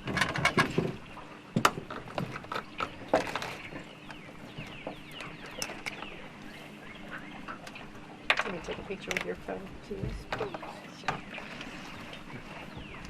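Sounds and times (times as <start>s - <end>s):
knocks and thumps on a boat: 0.0s - 6.4s, 7.0s - 13.0s.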